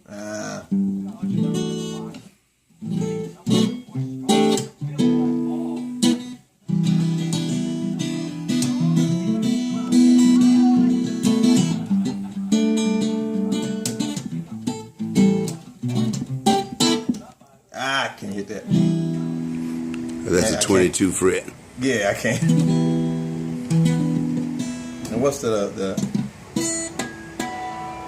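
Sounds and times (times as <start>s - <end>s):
guitar plucked and strummed: 0.4s - 17.3s, 18.6s - 28.0s.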